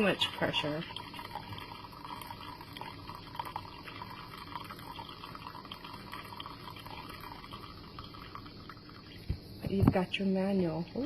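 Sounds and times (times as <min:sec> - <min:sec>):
hot water trickling into a cup: 0:00.0 - 0:11.0.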